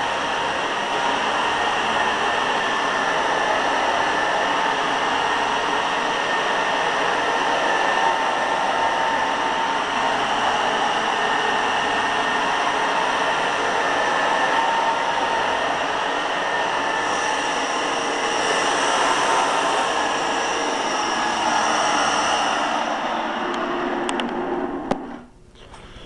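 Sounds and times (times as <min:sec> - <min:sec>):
carpet cleaner motor whining: 0:00.0 - 0:25.1.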